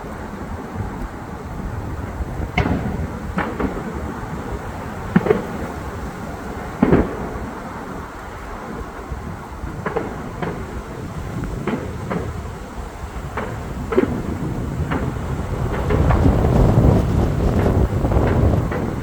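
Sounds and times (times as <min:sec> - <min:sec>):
fireworks booming: 0:00.0 - 0:19.0.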